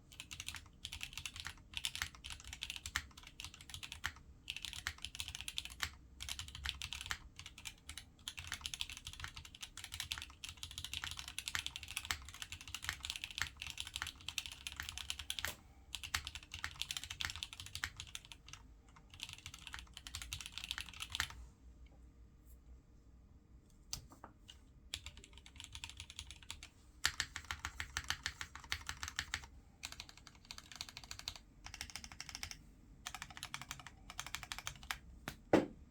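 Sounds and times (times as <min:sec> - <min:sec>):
mechanical keyboard typing: 0:00.1 - 0:21.4, 0:24.9 - 0:35.0.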